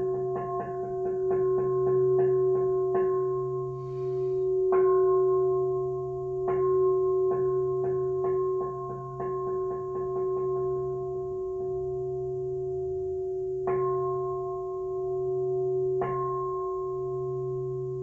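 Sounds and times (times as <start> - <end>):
large bowl bell struck: 0.0 - 18.0.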